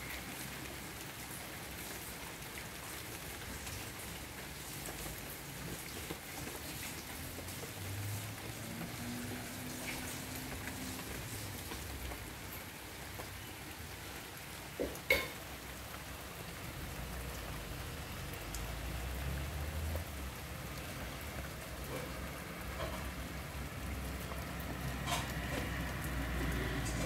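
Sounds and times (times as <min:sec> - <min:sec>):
rain falling on puddles: 0:00.0 - 0:27.0.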